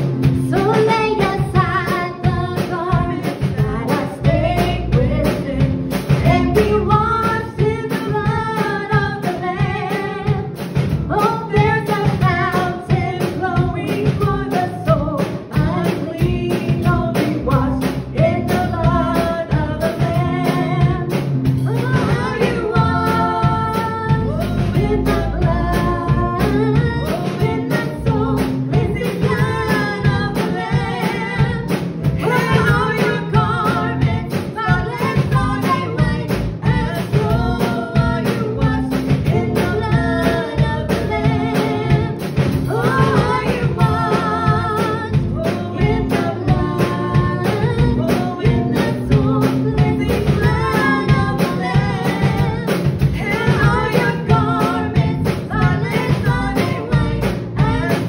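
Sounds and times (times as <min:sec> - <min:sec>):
instrumental backing with beat: 0:00.0 - 0:58.0
women singing into microphones: 0:00.0 - 0:58.0.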